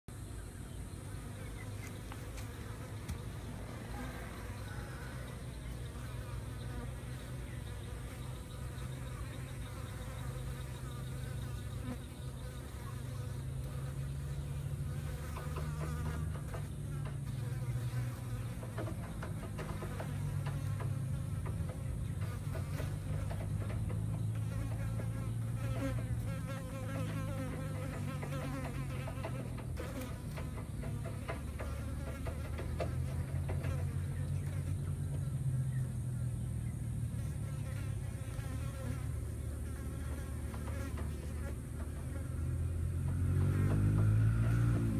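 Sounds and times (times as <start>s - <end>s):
flying insects buzzing: 0.1s - 44.9s.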